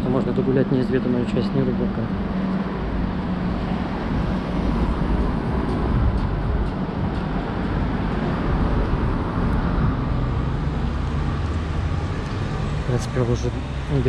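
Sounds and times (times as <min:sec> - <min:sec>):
street background rumble: 0:00.0 - 0:14.0.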